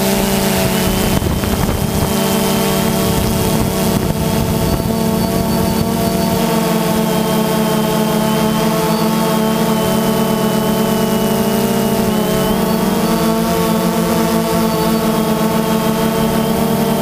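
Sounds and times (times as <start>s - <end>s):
drone rotors humming: 0.0s - 17.0s
high motor whine: 0.0s - 17.0s.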